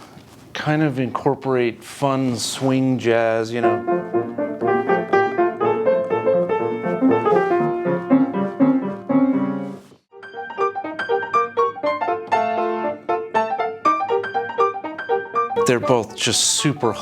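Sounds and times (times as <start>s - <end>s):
swing jazz piano: 2.0s - 17.0s.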